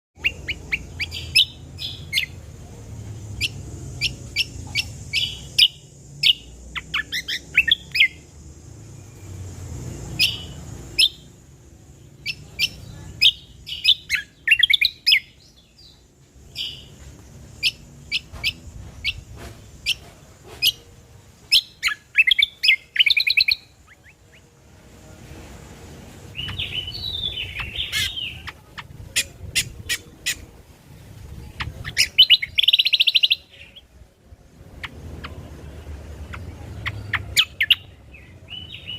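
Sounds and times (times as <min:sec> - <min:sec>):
bird chirping and trilling: 0:00.2 - 0:11.4, 0:12.0 - 0:20.8, 0:21.4 - 0:24.5, 0:26.3 - 0:34.0, 0:34.6 - 0:38.9.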